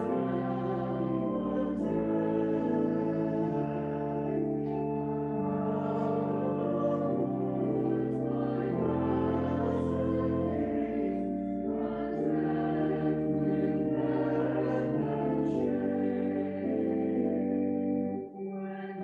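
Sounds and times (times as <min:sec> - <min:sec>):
slow church music chords: 0:00.0 - 0:19.0.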